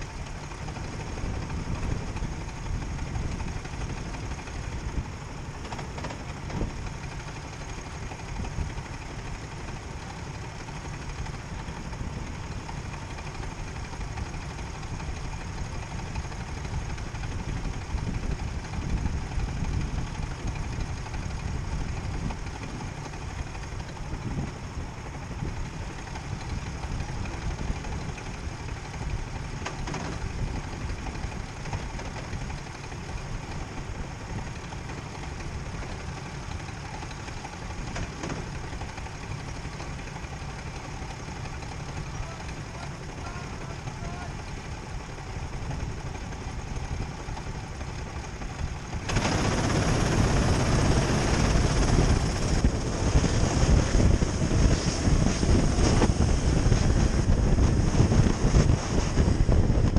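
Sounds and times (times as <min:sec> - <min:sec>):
go-kart engines idling: 0:00.0 - 0:59.9.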